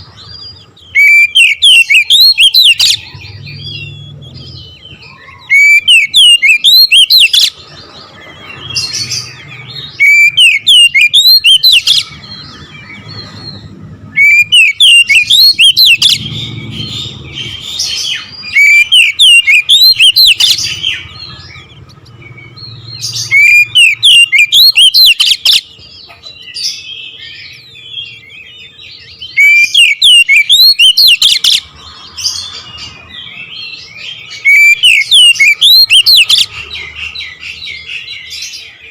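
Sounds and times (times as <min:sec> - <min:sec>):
bird singing rising whistled notes: 0:00.0 - 0:38.9
quiet bird twittering: 0:00.0 - 0:38.9.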